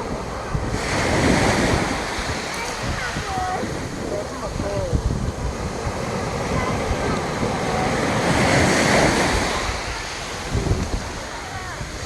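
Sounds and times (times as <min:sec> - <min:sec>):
surf rushing: 0:00.0 - 0:12.0
wave breaking up the beach: 0:00.0 - 0:12.0
wind buffeting microphone: 0:00.0 - 0:12.0.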